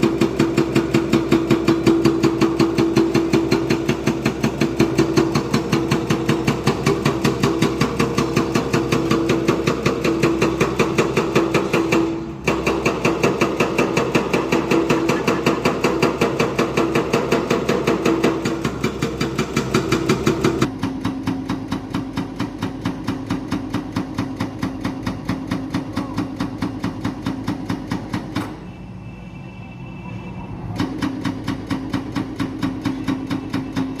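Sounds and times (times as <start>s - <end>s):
diesel engine running: 0.0s - 28.7s, 30.3s - 34.0s.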